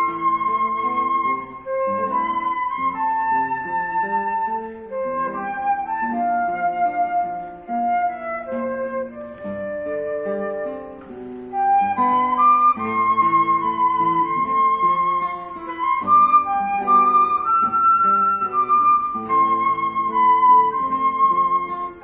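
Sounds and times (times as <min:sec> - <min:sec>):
flute melody: 0:00.0 - 0:22.0
plucked classical guitar: 0:00.0 - 0:22.0.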